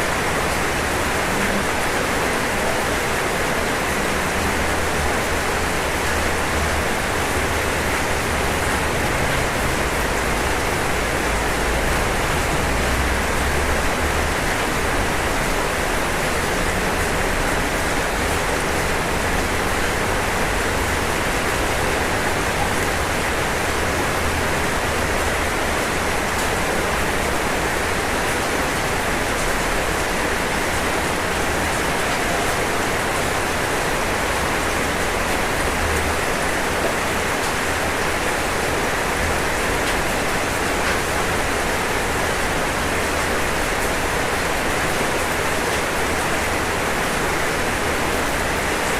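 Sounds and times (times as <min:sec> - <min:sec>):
rain on a roof: 0:00.0 - 0:48.9.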